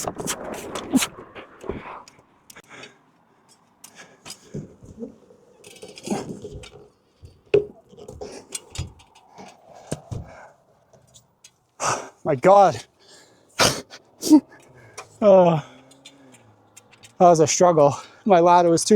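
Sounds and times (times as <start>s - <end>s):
knocks clicks and scraping of handling: 0.0s - 11.8s, 13.8s - 17.4s.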